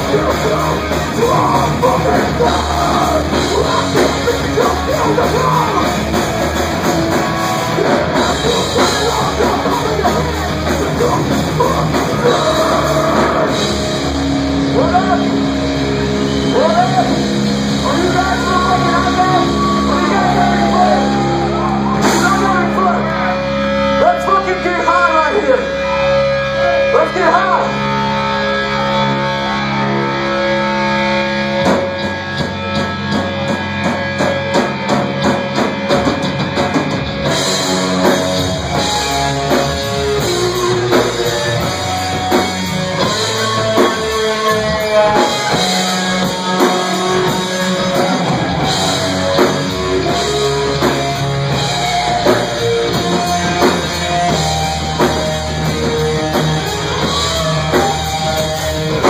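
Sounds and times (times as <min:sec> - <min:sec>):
drum kit with cymbals: 0:00.0 - 0:22.9, 0:31.6 - 0:59.0
electric guitar chords: 0:00.0 - 0:59.0
rock band playing loud: 0:00.0 - 0:59.0.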